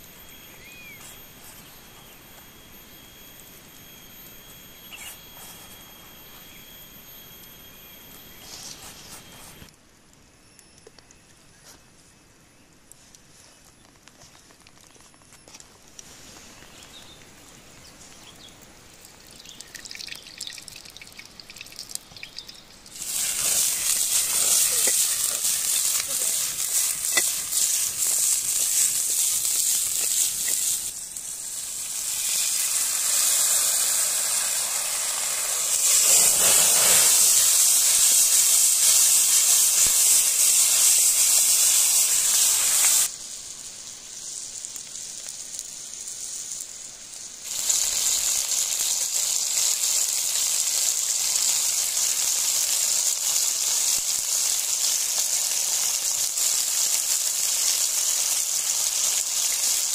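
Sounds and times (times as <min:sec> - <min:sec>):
food sizzling in a wok: 0:00.0 - 0:09.7, 0:16.0 - 0:59.9.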